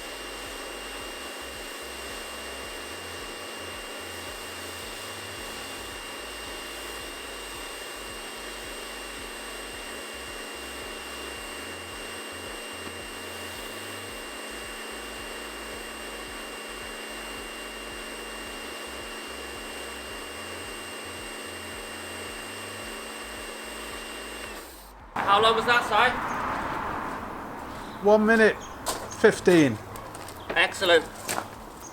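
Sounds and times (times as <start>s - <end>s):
pressure washer whine: 0.0s - 31.9s.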